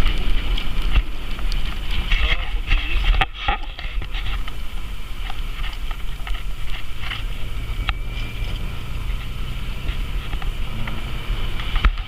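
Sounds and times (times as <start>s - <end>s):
off-road vehicle engine rumble: 0.0s - 12.0s.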